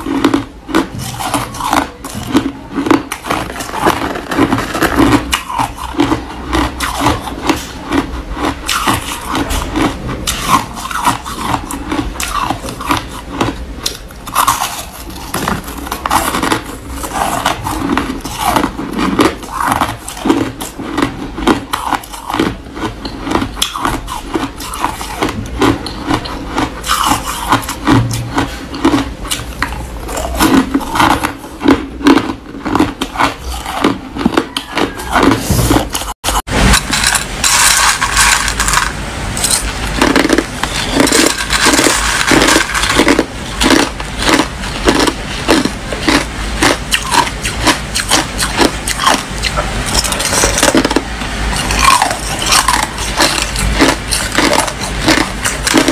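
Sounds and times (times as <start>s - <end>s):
chewing crunchy ice: 0.0s - 55.9s.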